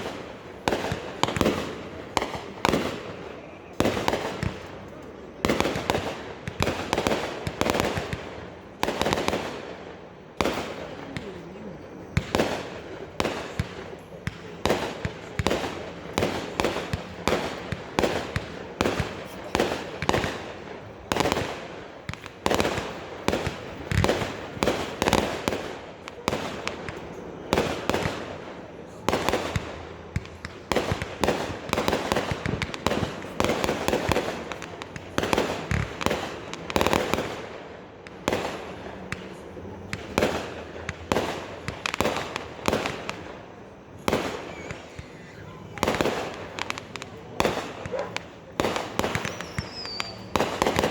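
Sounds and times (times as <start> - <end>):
fireworks banging: 0.0 - 50.9.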